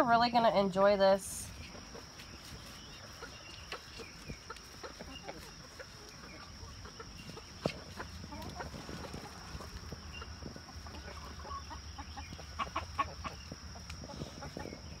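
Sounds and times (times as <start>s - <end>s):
chickens clucking softly: 1.5s - 15.0s.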